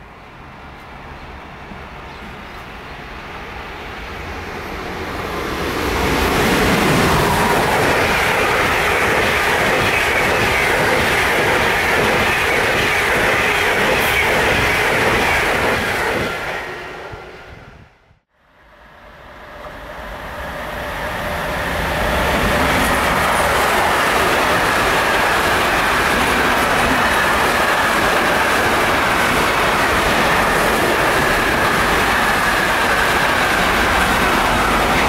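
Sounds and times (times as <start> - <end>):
passenger train passing: 0.0 - 35.0
train wheels rumbling on rails: 4.2 - 17.2, 19.6 - 35.0.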